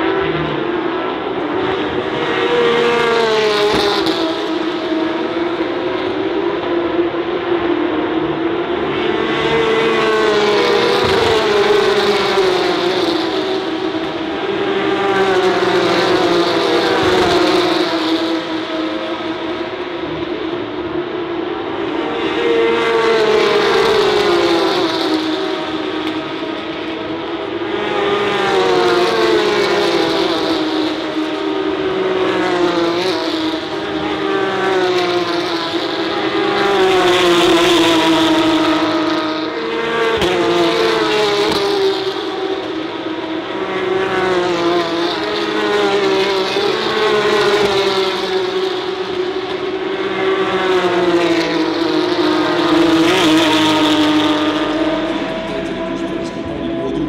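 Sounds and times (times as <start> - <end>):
race car engines passing: 0.0 - 57.0.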